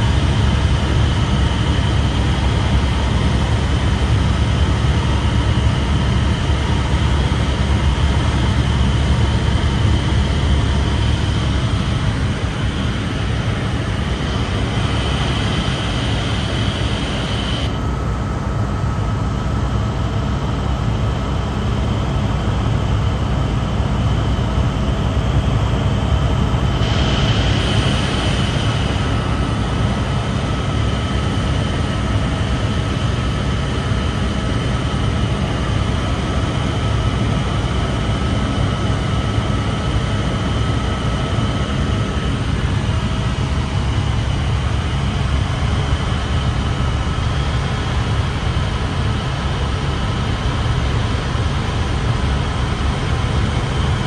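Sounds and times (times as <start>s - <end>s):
helicopter rotor and engine rumble: 0.0s - 54.0s
high whine: 0.0s - 54.0s.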